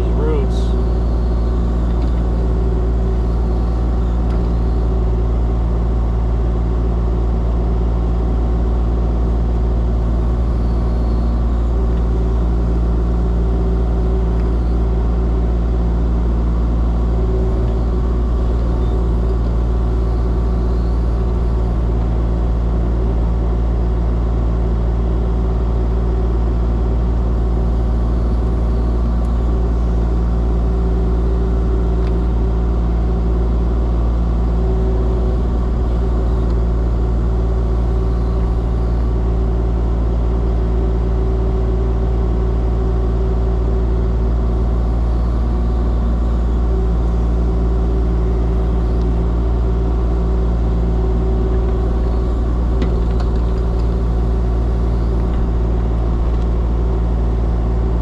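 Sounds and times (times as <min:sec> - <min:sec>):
excavator diesel engine droning: 0:00.0 - 0:58.0.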